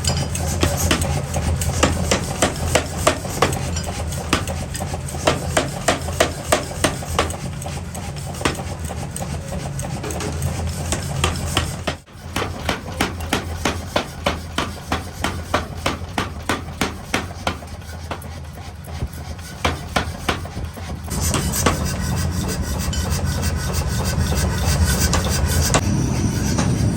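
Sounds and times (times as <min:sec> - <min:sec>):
workshop machine hum: 0:00.0 - 0:26.9.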